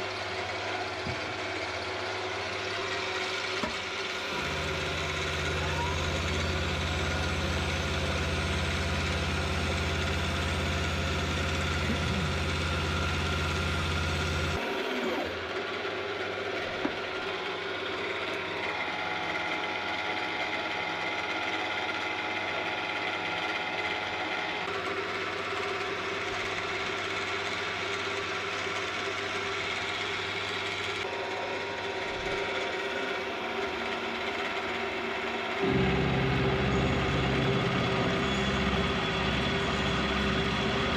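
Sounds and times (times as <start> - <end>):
machine low hum: 0.0 - 26.9, 31.0 - 40.9
end mill cutting whine: 0.0 - 40.9.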